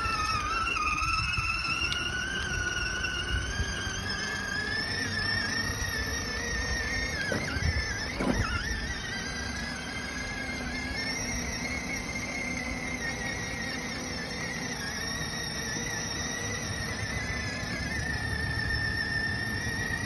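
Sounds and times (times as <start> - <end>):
electric toy car motor whining: 0.0 - 20.0
wheels rolling on road: 0.0 - 20.0.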